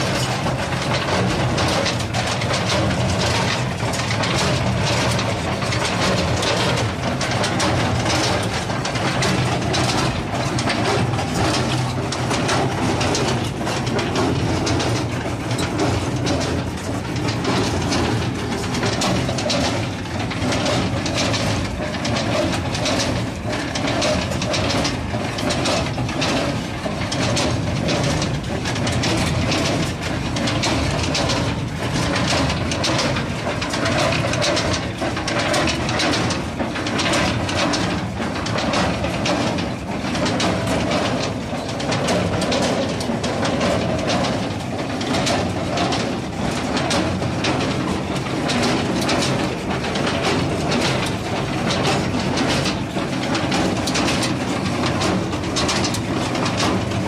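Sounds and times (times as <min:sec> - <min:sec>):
baler mechanical clatter: 0:00.0 - 0:57.0
engine drone: 0:00.0 - 0:57.0.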